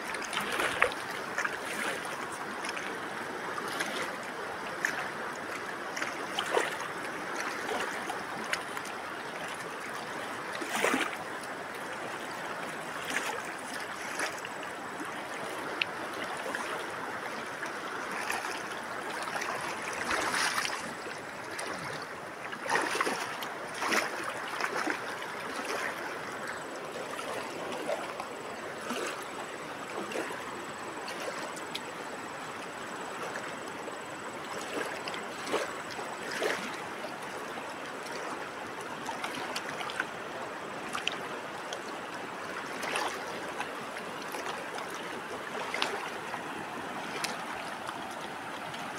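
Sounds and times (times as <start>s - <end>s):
river water flowing: 0.0s - 48.9s
splashes from person wading: 0.0s - 48.9s.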